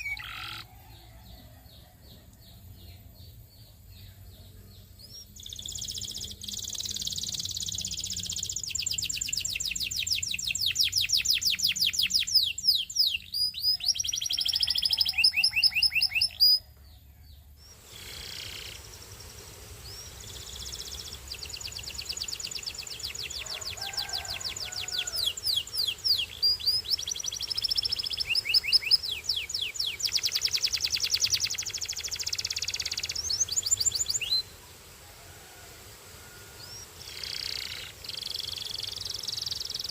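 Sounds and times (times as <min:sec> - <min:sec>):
canary singing trills: 0:00.0 - 0:34.5, 0:36.6 - 0:39.9.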